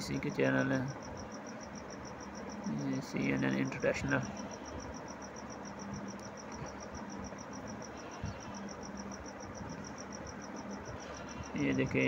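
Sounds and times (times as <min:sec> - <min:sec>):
faint background hiss: 0:00.0 - 0:12.0
insect trilling: 0:00.0 - 0:12.0.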